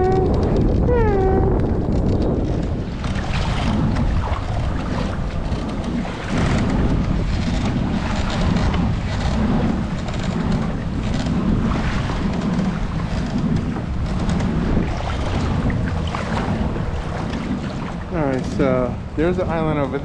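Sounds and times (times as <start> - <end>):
wind buffeting microphone: 0.0 - 20.0
kayak paddle splashing water: 2.8 - 19.2.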